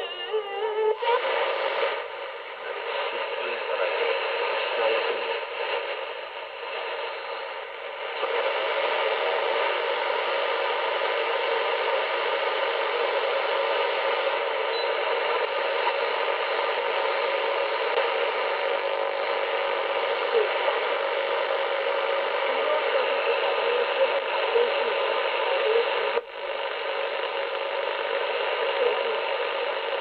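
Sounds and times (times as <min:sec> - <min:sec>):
radio static hiss: 0:00.0 - 0:30.0.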